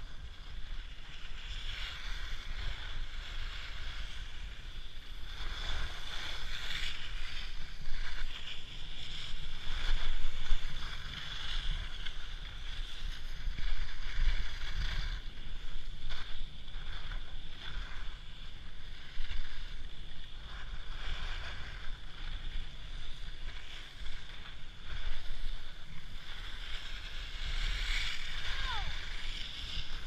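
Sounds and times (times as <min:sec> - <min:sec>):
skis sliding over snow: 0:00.0 - 0:30.0.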